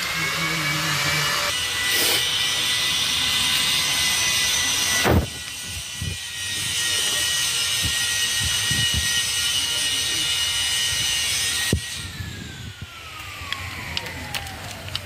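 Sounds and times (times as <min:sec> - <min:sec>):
power tool motor whining: 0:00.0 - 0:15.0.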